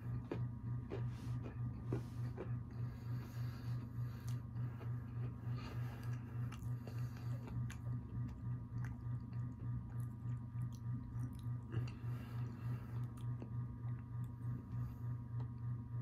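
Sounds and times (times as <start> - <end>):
chewing crunchy cookie: 0.0 - 15.7
low pulsing hum: 0.0 - 16.0.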